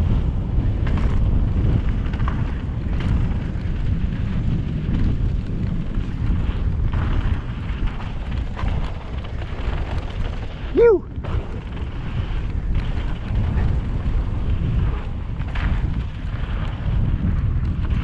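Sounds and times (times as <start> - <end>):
bike knocks and rattles: 0.0 - 18.0
tyres rumbling on dirt trail: 0.0 - 18.0
wind buffeting microphone: 0.0 - 18.0.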